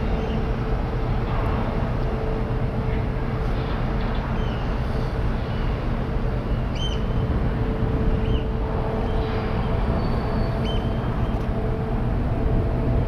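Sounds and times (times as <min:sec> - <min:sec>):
ship machinery rumble: 0:00.0 - 0:13.0
steady humming tone: 0:00.0 - 0:13.0.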